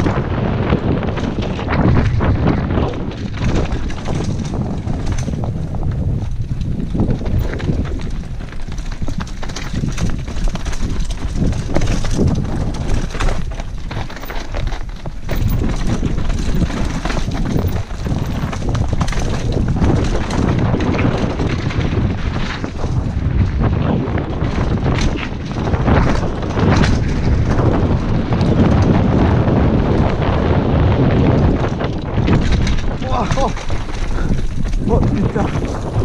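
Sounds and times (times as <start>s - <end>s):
bike knocks and rattles: 0.0s - 36.0s
tyres rumbling on dirt and rock: 0.0s - 36.0s
wind rushing over microphone: 0.0s - 36.0s.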